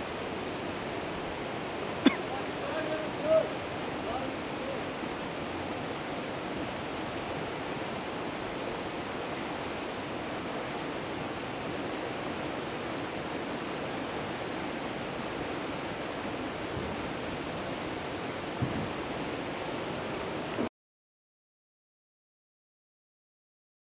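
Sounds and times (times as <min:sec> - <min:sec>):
stream rushing over rocks: 0:00.0 - 0:20.7.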